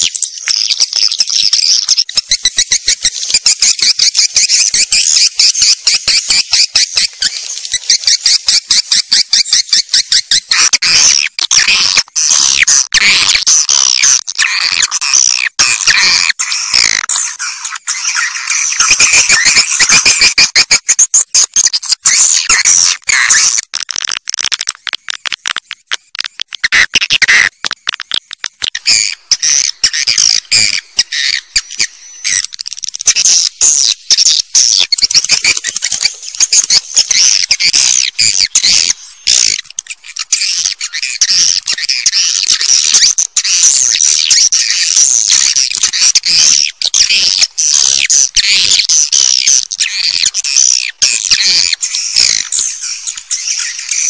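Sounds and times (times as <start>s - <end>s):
swiftlet chattering twitters: 0.0s - 54.0s.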